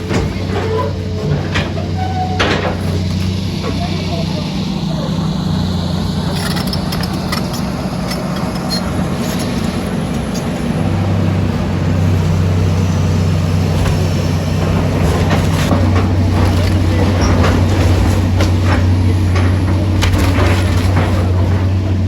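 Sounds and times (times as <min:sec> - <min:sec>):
large engine running: 0:00.0 - 0:22.0.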